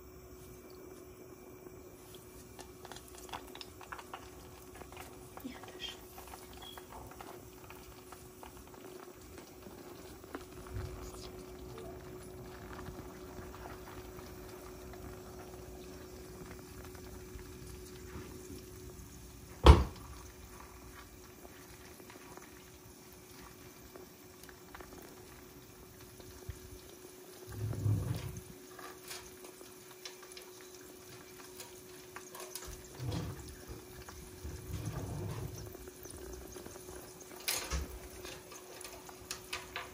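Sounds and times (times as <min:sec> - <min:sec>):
oil sizzling in a pan: 0:00.0 - 0:39.9.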